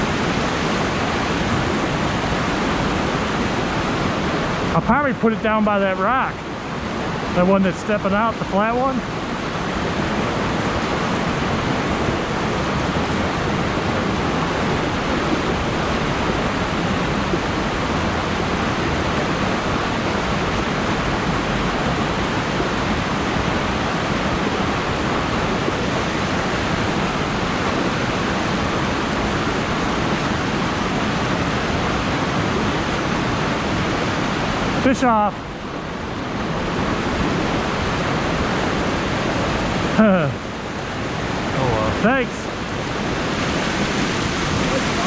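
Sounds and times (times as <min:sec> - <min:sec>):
whitewater rushing through rapids: 0:00.0 - 0:45.0.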